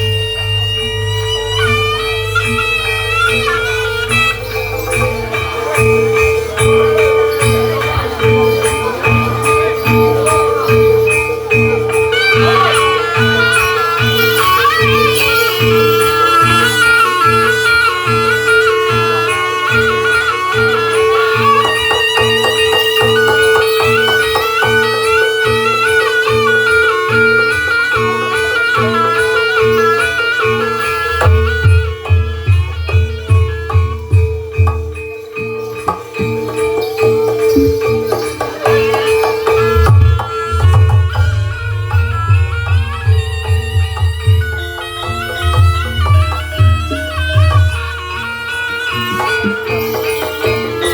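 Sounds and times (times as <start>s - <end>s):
shrill reed wind instrument: 0.0s - 50.9s.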